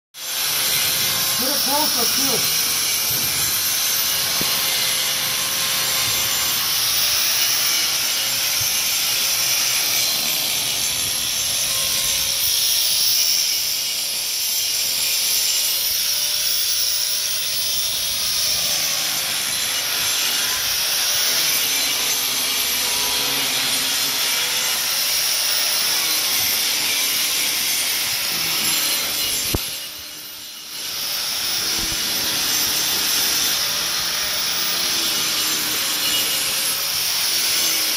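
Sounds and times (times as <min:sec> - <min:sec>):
electric grinder cutting concrete: 0:00.2 - 0:37.9.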